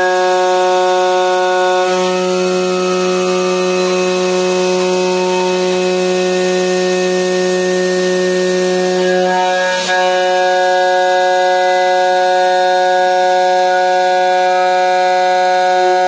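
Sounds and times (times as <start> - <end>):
machine spindle whine: 0.0 - 16.0.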